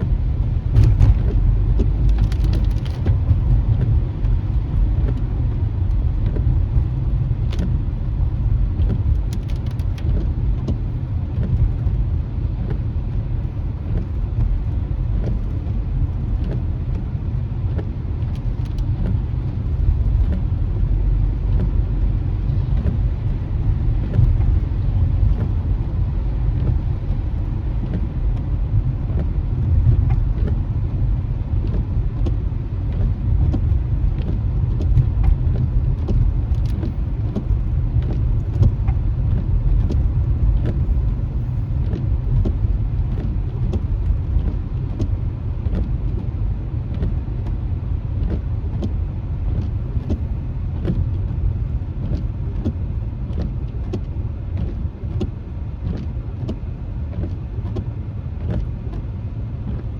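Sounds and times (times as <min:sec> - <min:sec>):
car tyres and engine rumble: 0:00.0 - 0:59.9
rain ticking on windshield: 0:00.0 - 0:59.9.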